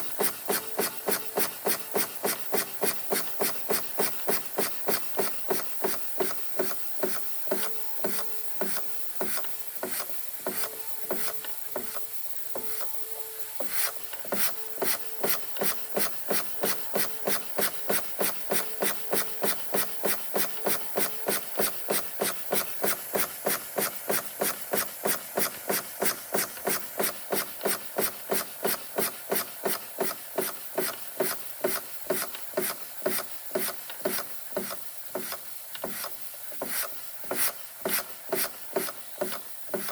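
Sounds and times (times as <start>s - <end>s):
toy steam engine exhaust beating: 0.0s - 39.9s.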